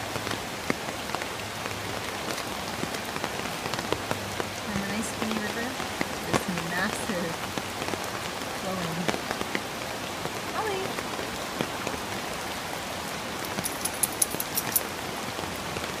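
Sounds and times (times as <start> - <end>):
falling rain: 0.0 - 16.0
river rushing: 0.0 - 16.0.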